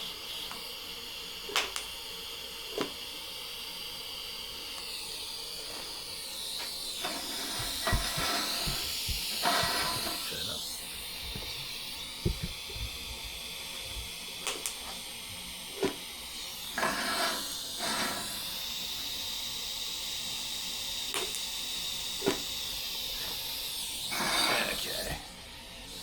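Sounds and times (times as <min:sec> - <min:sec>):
welding arc hissing: 0:00.0 - 0:26.0.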